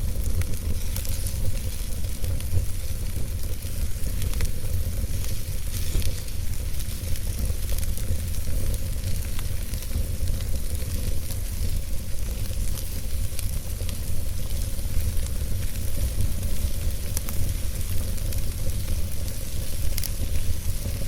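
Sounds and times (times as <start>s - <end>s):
fire crackling and popping: 0.0s - 21.0s
logs burning hiss and rumble: 0.0s - 21.0s.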